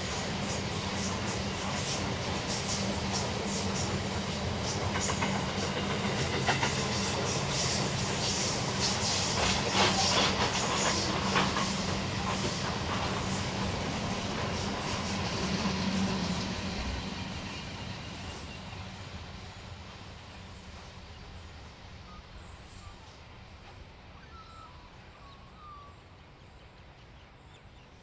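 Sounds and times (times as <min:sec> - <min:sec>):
diesel locomotive engines humming: 0:00.0 - 0:28.0.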